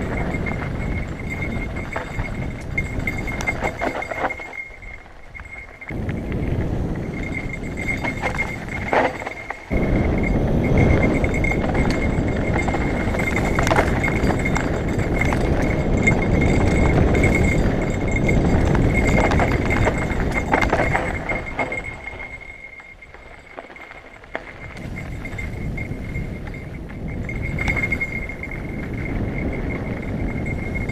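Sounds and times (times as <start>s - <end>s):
loose bike bell ringing: 0.0s - 30.9s
wind and trail rumble: 0.0s - 30.9s.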